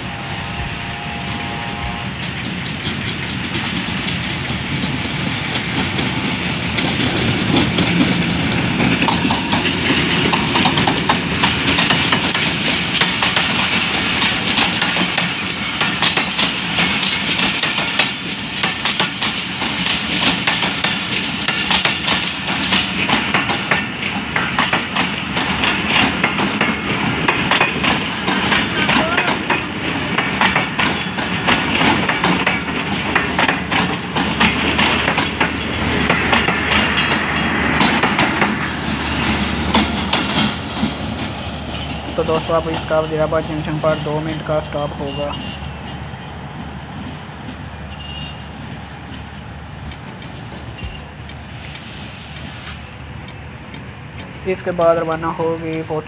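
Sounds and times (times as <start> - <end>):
train wheels clickety-clack: 0.0 - 43.7, 49.8 - 56.0.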